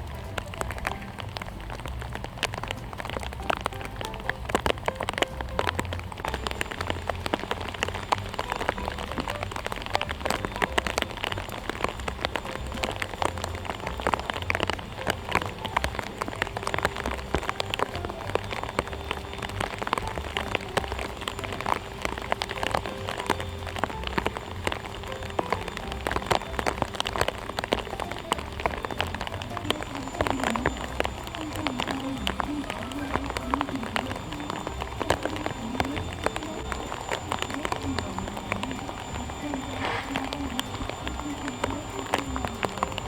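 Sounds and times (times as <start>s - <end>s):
rain on a hard surface: 0.0s - 43.0s.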